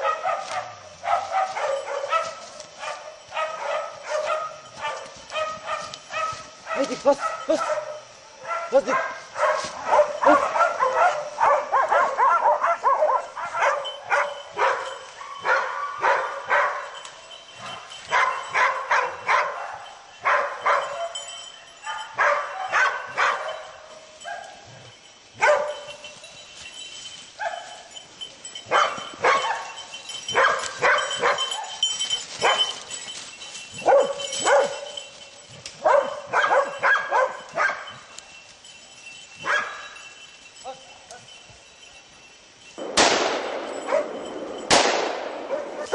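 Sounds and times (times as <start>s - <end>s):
hunting dogs barking and yelping: 0.0s - 45.9s.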